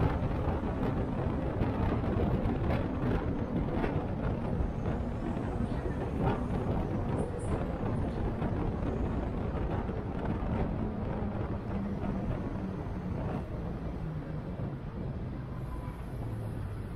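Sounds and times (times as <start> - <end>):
bus engine and tyre rumble: 0.0 - 16.9.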